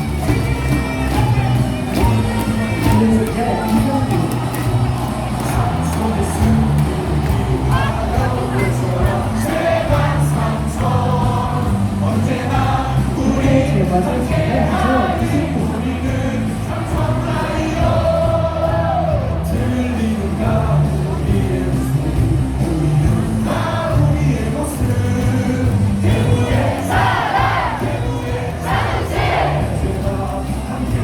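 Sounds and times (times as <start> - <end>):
crowd singing a cheer song: 0.0 - 31.0
loud amplified music with beat: 0.0 - 31.0.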